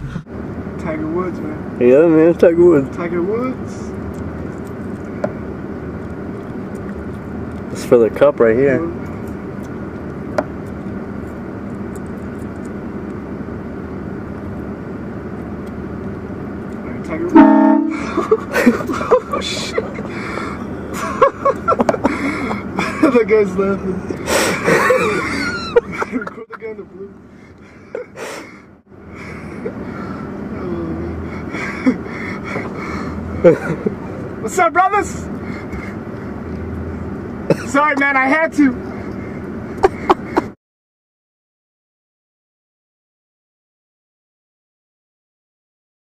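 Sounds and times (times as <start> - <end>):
car driving road noise: 0.0 - 40.6.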